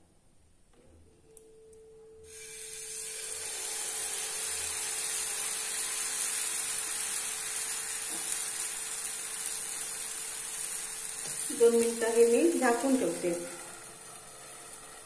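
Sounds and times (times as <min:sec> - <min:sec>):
batter sizzling on a hot pan: 0:02.3 - 0:15.0.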